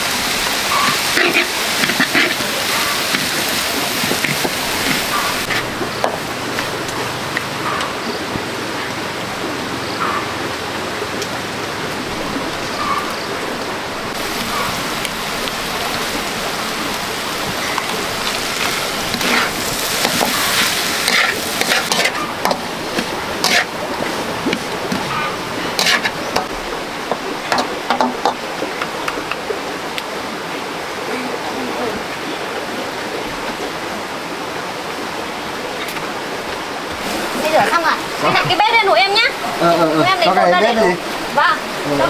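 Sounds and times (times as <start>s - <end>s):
running water: 0.0s - 42.0s.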